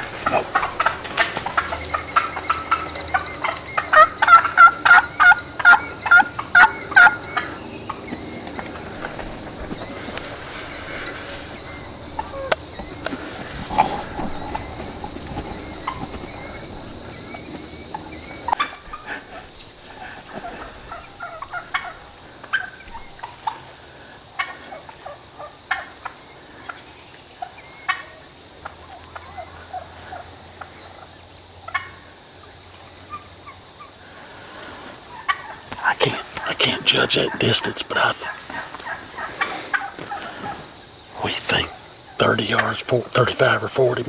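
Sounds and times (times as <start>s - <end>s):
turkey hens calling: 0.0s - 44.0s.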